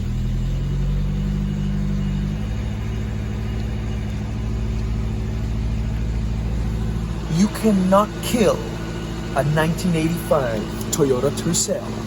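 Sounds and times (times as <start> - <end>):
car engine fast idle: 0.0 - 12.0.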